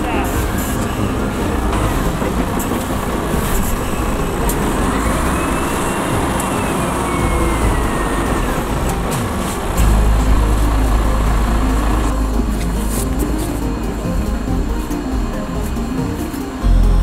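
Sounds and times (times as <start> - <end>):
loud rushing noise: 0.0 - 16.6
faint whine: 0.0 - 17.0
motor vehicle engine running: 0.0 - 17.0.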